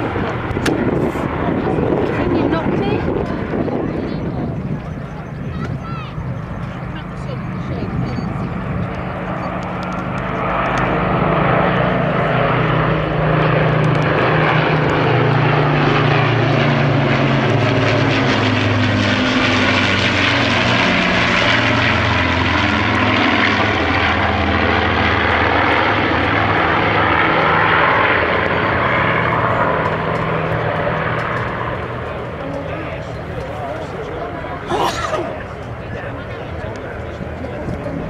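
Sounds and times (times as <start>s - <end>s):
propeller planes droning overhead: 0.0s - 38.0s.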